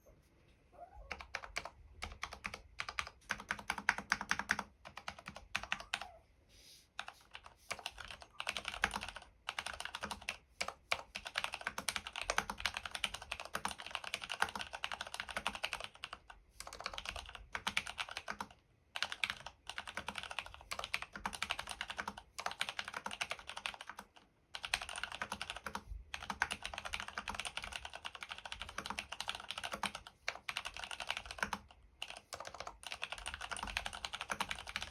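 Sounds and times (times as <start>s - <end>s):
mechanical keyboard typing: 1.1s - 6.1s, 7.0s - 34.9s.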